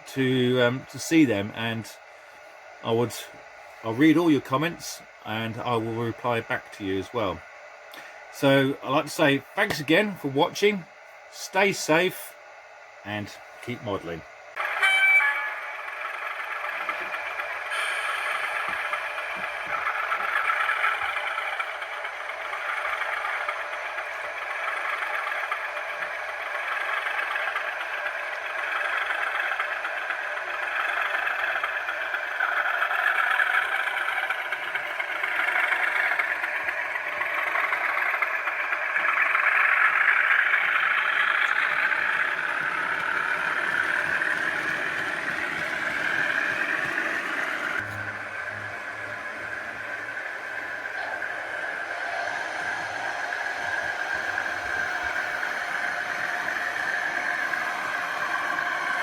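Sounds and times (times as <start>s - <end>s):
diesel engine through small speaker: 0.0s - 59.0s.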